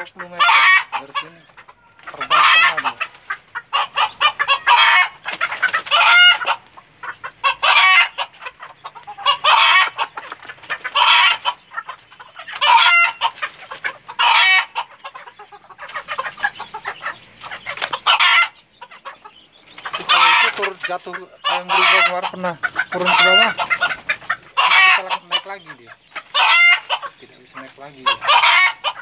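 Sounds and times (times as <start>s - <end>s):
roosters clucking and cackling: 0.0s - 29.0s.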